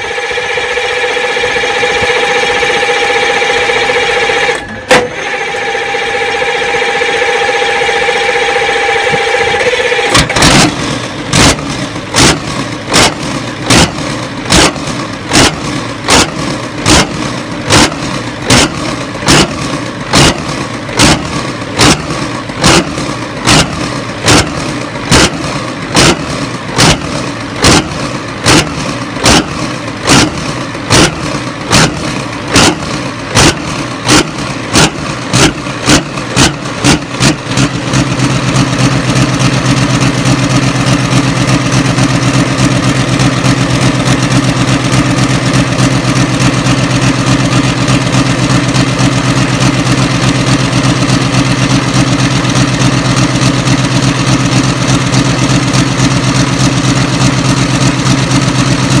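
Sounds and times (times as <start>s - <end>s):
engine starting and running: 0.0s - 59.0s.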